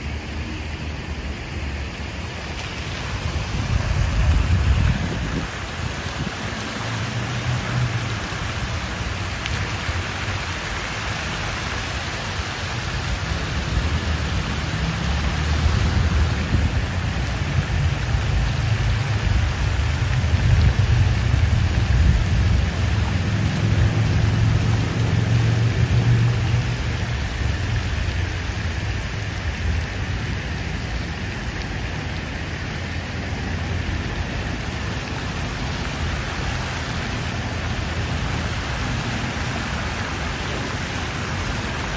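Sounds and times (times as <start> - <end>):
fountain water splashing: 0.0 - 41.9.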